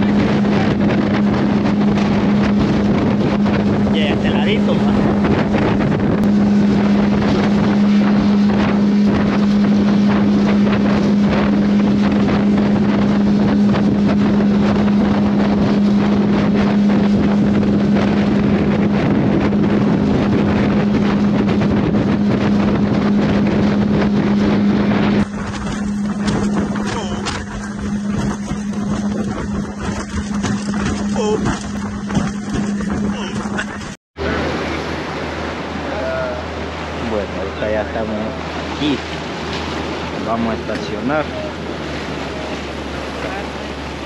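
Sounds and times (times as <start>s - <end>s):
boat engine drone: 0.0s - 44.0s
water along hull: 0.0s - 44.0s
wind on microphone: 0.0s - 44.0s.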